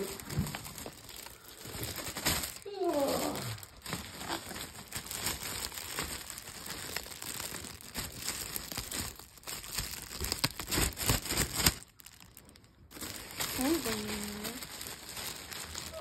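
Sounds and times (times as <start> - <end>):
cellophane crinkling: 0.0 - 16.0.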